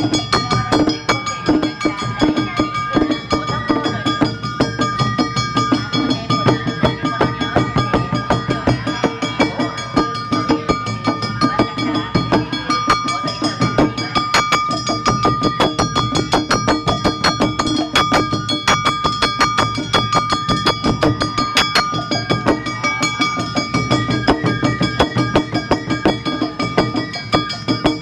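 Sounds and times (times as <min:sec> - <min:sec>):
large taiko drums: 0:00.0 - 0:28.0
metal percussion beaten: 0:00.0 - 0:28.0.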